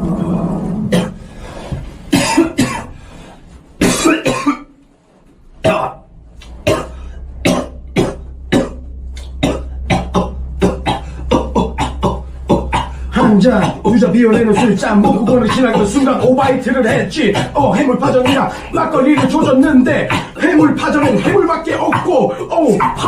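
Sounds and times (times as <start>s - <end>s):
steady low hum: 0.0s - 23.0s
person coughing: 2.1s - 3.0s, 3.8s - 4.7s, 5.6s - 6.0s, 6.6s - 23.0s.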